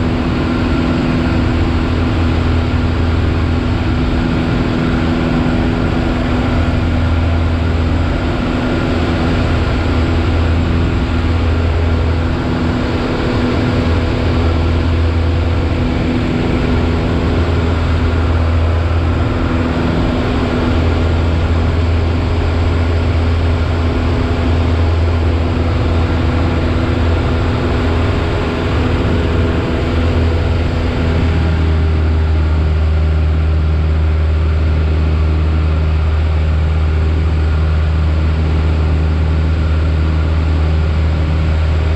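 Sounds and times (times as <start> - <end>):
propeller plane engine droning: 0.0 - 41.9.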